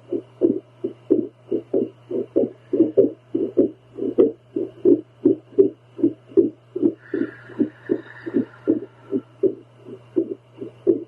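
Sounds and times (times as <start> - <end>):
steady low hum: 0.0 - 11.0
whooshing heartbeat pulses: 0.1 - 11.0.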